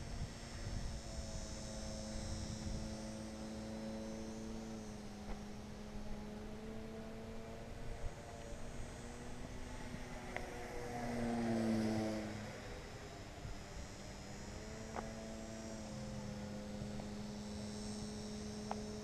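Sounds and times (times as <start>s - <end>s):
model plane motor tone: 0.0s - 19.0s.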